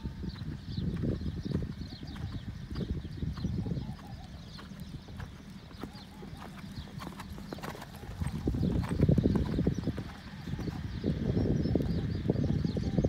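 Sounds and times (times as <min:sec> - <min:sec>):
horse hoofbeats on sand: 0:00.0 - 0:12.1.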